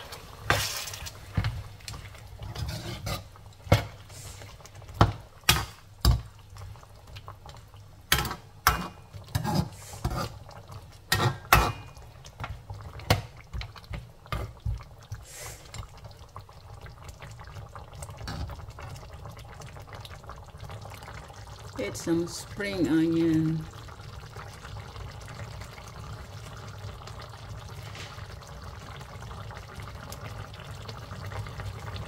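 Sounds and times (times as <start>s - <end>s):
sauce simmering: 0.0s - 32.0s.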